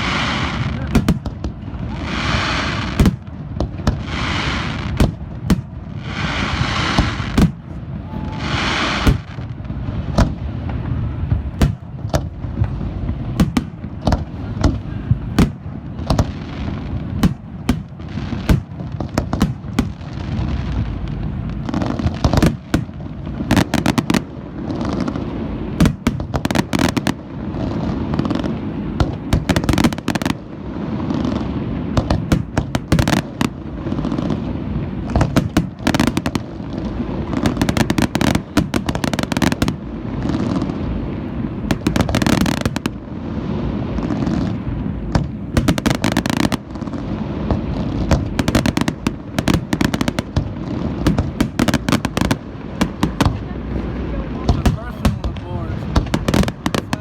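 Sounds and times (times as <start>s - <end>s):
hissing firework bursts: 0.0s - 57.0s.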